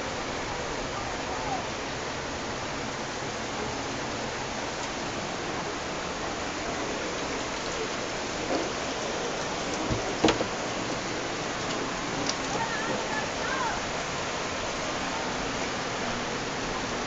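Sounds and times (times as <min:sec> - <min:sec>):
heavy rain and floodwater rushing: 0:00.0 - 0:17.0.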